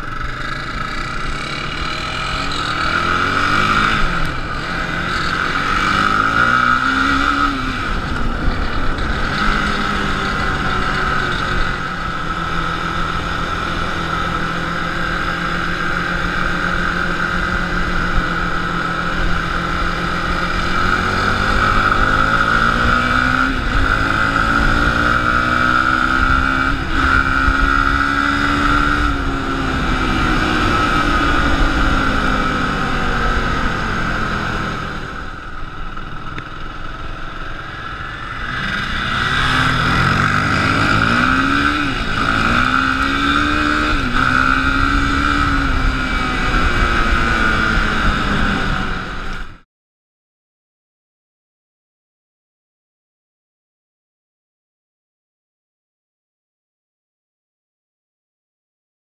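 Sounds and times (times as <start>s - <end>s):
quad engine revving through gears: 0.0s - 49.6s.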